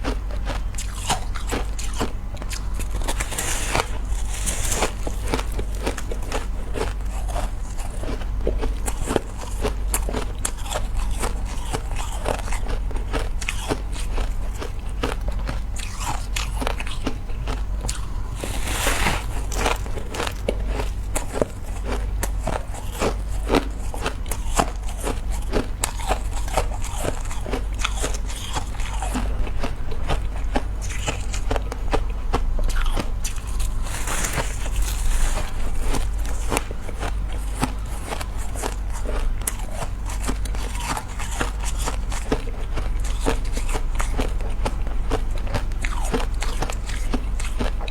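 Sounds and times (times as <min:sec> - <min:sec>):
ice crunching while chewed: 0:00.0 - 0:47.9
steady low hum: 0:00.0 - 0:47.9.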